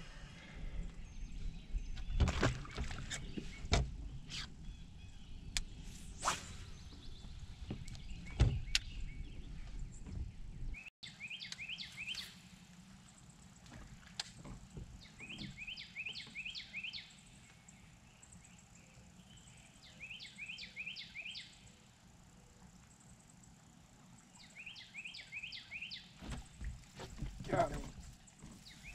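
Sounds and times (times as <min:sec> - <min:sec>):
songbird singing: 0:00.5 - 0:28.9.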